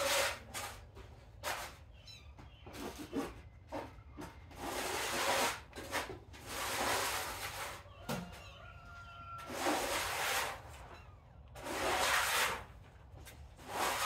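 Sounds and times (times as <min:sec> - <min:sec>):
scraping against wood: 0:00.0 - 0:14.0.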